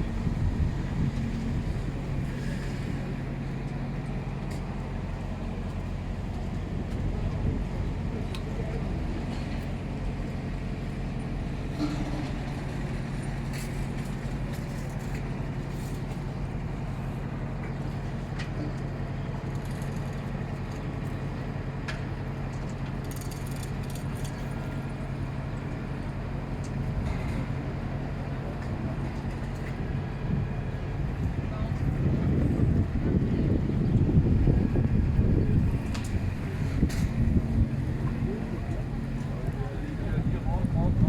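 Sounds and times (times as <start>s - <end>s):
large diesel engine idling: 0.0s - 41.0s.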